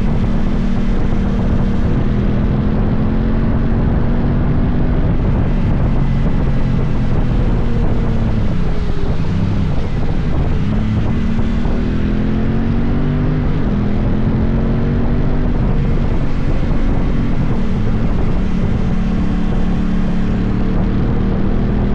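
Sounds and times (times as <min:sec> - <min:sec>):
motorcycle engine running: 0:00.0 - 0:21.9
wind noise on microphone: 0:00.0 - 0:21.9.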